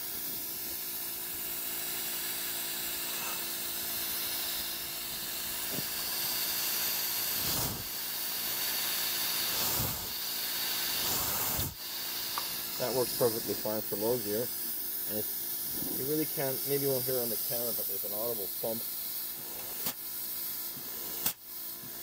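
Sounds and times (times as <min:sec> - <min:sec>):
air pump humming: 0:00.0 - 0:22.0
compressed air hissing: 0:00.0 - 0:22.0.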